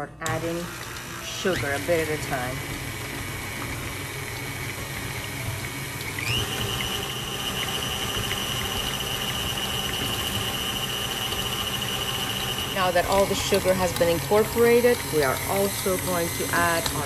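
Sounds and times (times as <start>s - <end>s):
stand mixer whisk beating: 0.0s - 17.0s.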